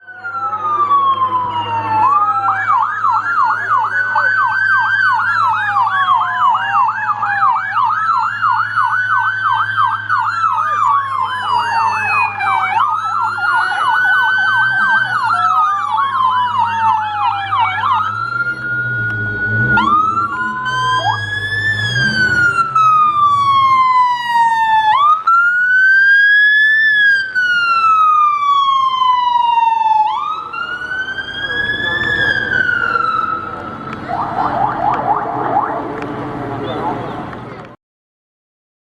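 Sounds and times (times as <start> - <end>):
police siren yelp: 0.0 - 37.7
police siren wail: 0.0 - 37.8.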